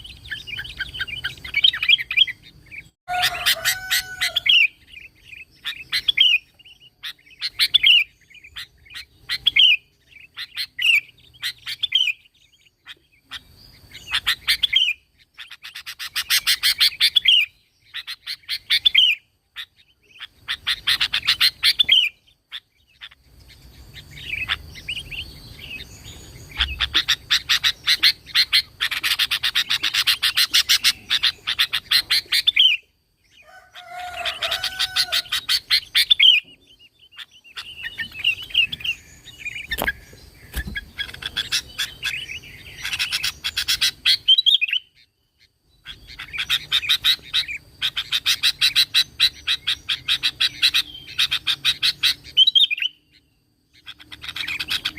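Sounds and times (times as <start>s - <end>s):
bulbul singing: 0.0s - 54.9s.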